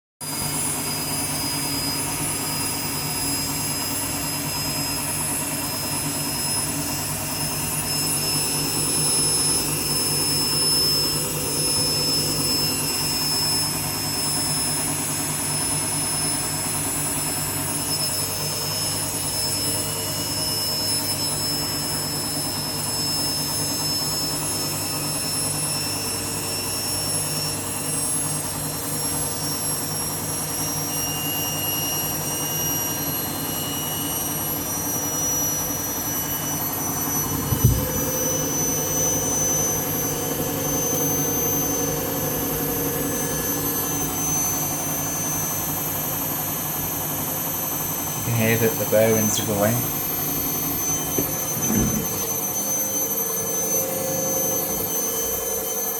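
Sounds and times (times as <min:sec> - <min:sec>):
washing machine spinning: 0:00.2 - 0:55.9.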